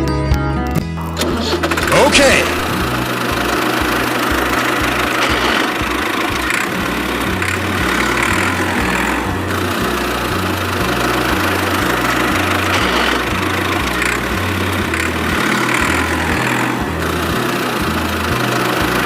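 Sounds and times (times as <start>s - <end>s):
background music with stepping bass: 0.0s - 19.0s
small tractor engine running: 1.1s - 19.0s.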